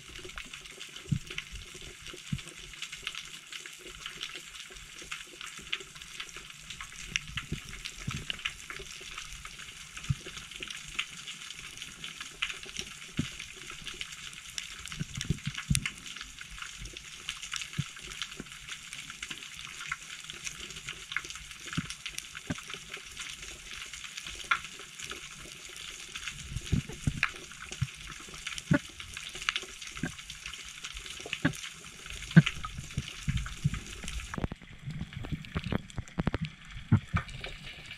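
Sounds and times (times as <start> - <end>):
underwater crackle of tiny clicks: 0.0 - 37.9.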